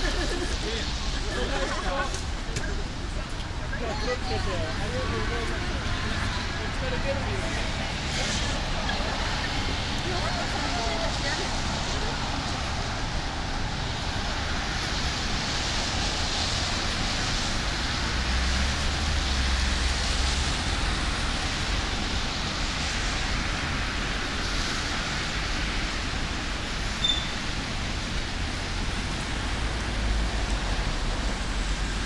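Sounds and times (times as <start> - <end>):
car tyres swishing on wet road: 0.0 - 32.0
rain hissing: 0.0 - 32.0.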